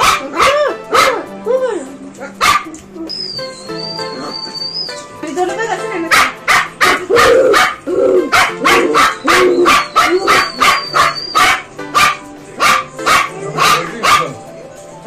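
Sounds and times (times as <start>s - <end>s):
puppies barking: 0.0s - 1.4s, 2.1s - 5.2s, 6.0s - 14.5s.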